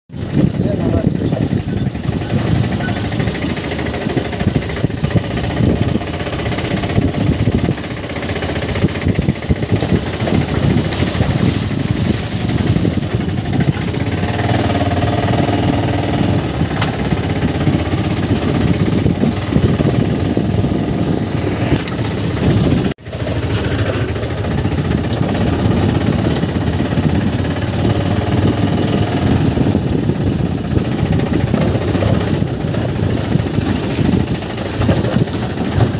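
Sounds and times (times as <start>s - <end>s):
motorcycle engine running: 0.1s - 35.9s
rumbling road noise: 0.1s - 35.9s.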